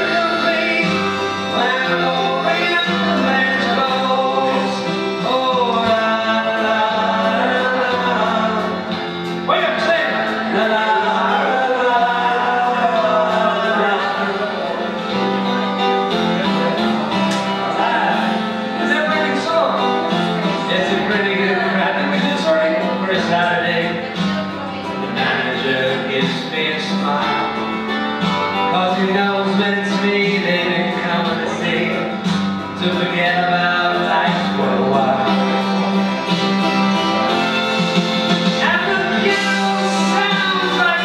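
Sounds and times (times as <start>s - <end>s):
man singing into microphone: 0.0s - 16.8s, 17.5s - 41.0s
guitar accompaniment: 0.0s - 41.0s.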